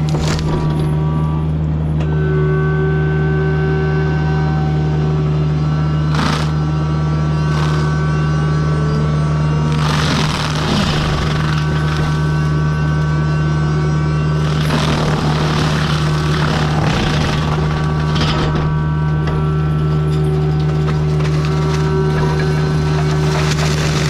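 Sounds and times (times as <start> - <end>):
mulcher grinding wood: 0.0 - 2.2, 5.2 - 24.0
excavator engine drone: 0.0 - 24.0
high whine of spinning drum: 0.7 - 24.0.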